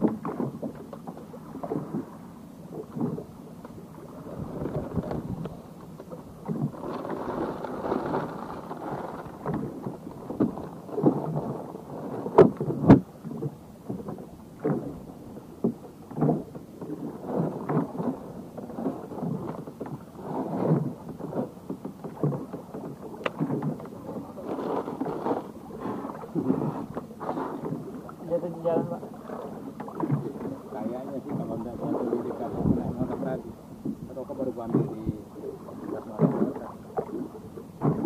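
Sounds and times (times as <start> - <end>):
waves slapping a boat: 0.0 - 38.0.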